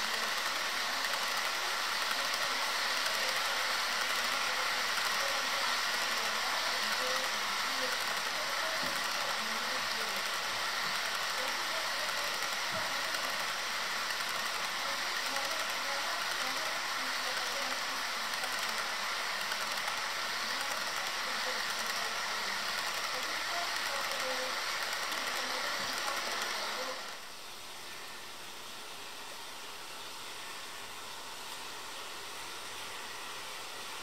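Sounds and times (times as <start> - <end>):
model train wheels on rails: 0.0 - 34.0.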